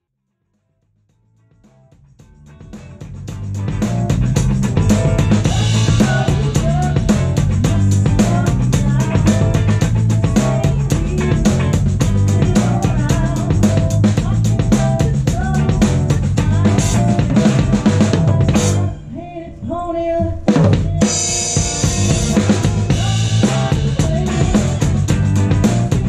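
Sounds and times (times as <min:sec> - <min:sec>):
band low notes: 0:01.2 - 0:26.0
drum kit playing: 0:01.3 - 0:19.2, 0:20.3 - 0:26.0.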